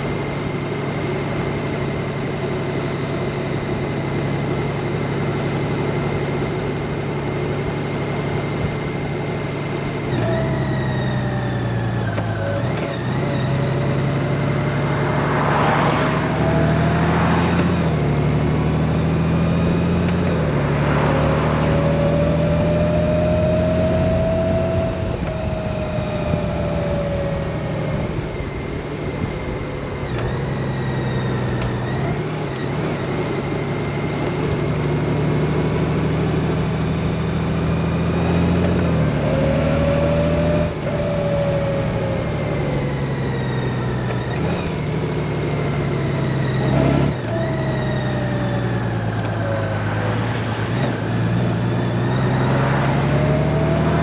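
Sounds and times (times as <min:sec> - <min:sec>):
motorcycle engine cruising: 0:00.0 - 0:54.0
road and wind noise: 0:00.0 - 0:54.0.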